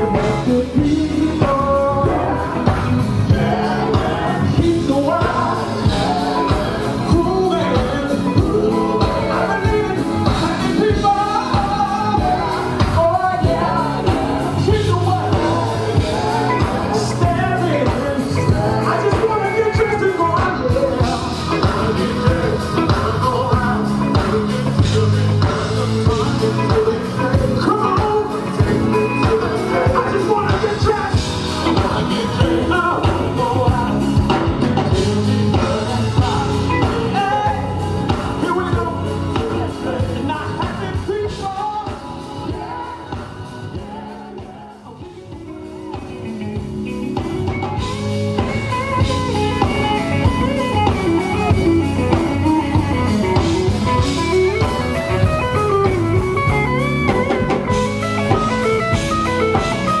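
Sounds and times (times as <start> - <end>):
person singing: 0.0 - 46.4, 47.2 - 60.0
drum kit: 0.0 - 60.0
electric guitar: 0.0 - 60.0
keyboard: 0.0 - 60.0.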